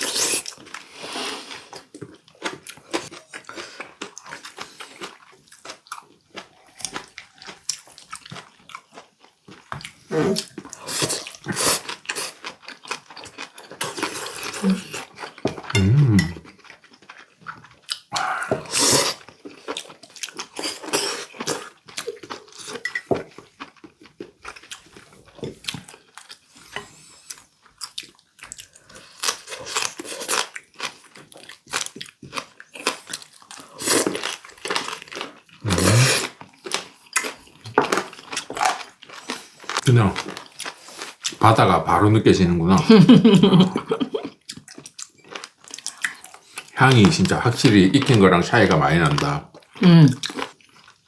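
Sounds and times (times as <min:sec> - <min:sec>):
chewing and crunching: 0:00.0 - 0:41.6, 0:44.0 - 0:51.0.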